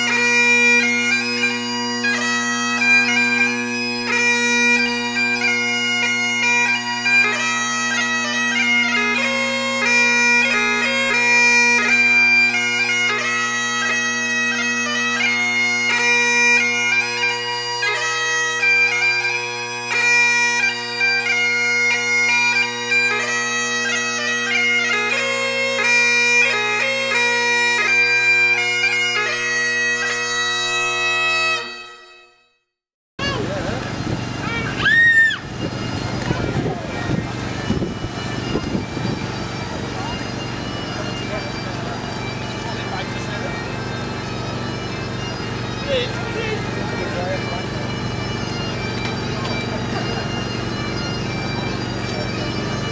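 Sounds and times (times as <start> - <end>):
bagpipes playing: 0.0 - 32.5, 33.2 - 52.9.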